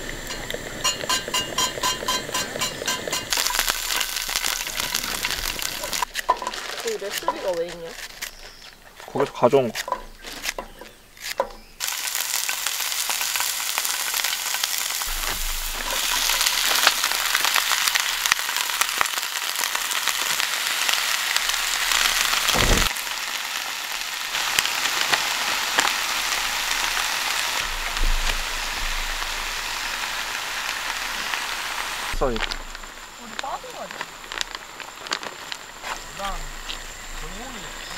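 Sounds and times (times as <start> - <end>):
vegetables sizzling in a griddle pan: 0.0 - 7.6, 11.8 - 37.9.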